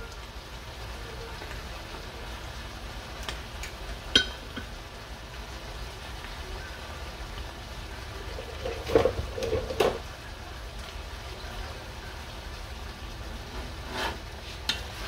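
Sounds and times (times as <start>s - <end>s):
vegetables sizzling in skillet: 0.0s - 15.0s.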